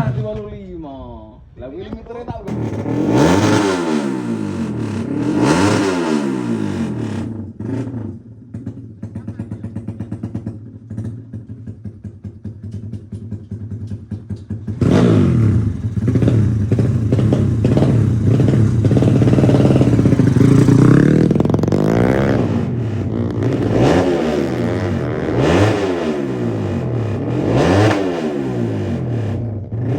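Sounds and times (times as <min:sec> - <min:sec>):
motorcycle engine idling and revving: 0:02.4 - 0:29.9.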